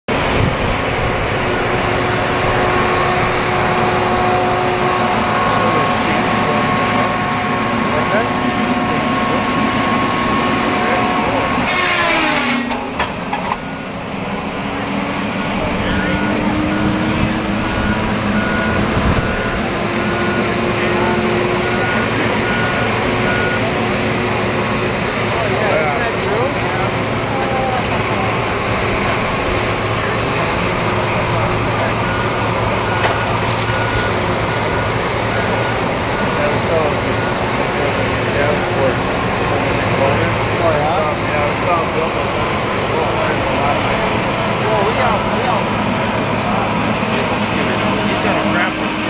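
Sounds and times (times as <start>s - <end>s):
constant whine: 0.0s - 49.0s
diesel engine running under load: 0.0s - 49.0s
high warning beeps: 0.9s - 41.1s.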